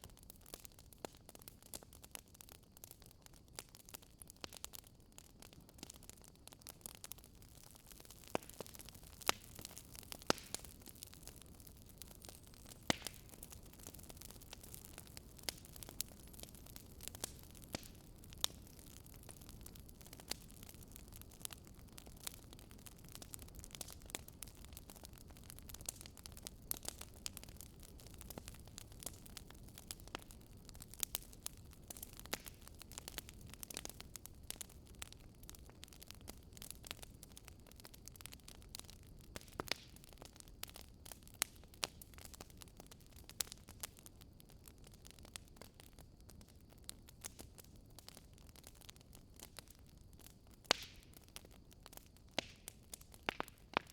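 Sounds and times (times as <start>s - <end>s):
low steady hiss: 0.0s - 53.9s
wood fire crackling and popping: 0.0s - 53.9s.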